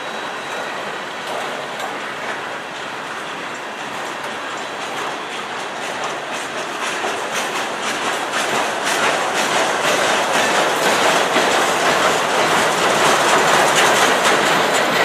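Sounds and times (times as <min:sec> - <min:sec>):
wheels clicking over track: 0:00.5 - 0:15.0.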